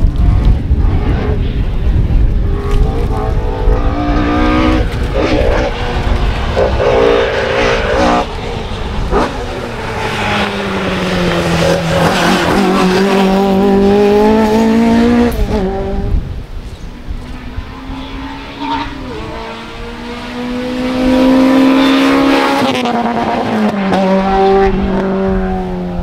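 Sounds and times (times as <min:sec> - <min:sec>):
second rally car engine: 0:00.0 - 0:26.0
rally car engine accelerating: 0:02.4 - 0:16.2, 0:17.4 - 0:26.0.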